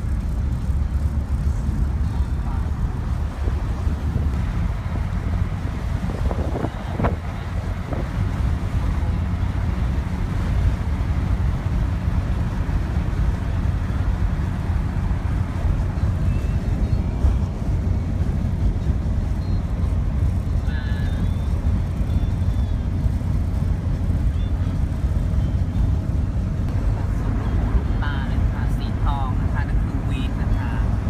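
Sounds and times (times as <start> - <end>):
car road and wind rumble: 0.0 - 31.0.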